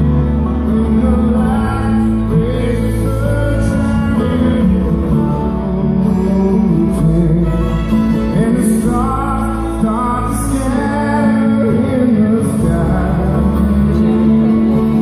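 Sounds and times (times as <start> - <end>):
banjo: 0.0 - 15.0
fiddle: 0.0 - 15.0
man singing: 0.0 - 15.0
mandolin: 0.0 - 15.0
upright bass: 0.0 - 15.0.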